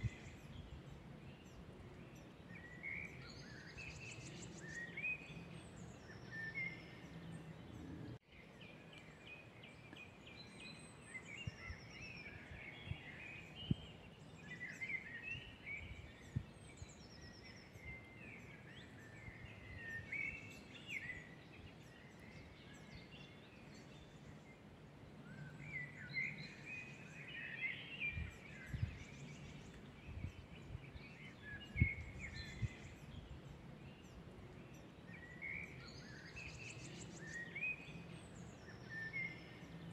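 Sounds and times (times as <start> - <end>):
soft outdoor hiss: 0.0 - 39.9
songbirds singing and chirping: 0.0 - 39.9.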